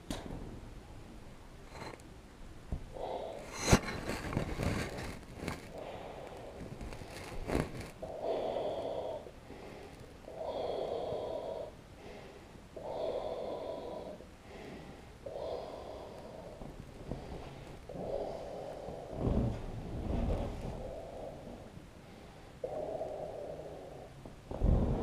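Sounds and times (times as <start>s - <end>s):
person breathing heavily: 2.9s - 25.0s.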